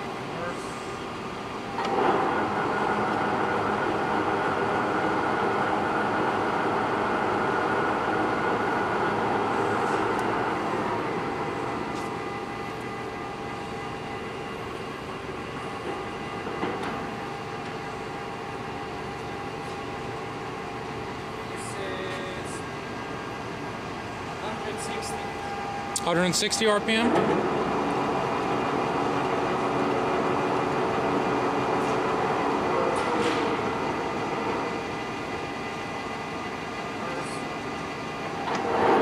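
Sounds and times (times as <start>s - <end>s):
lathe running: 1.2s - 39.0s.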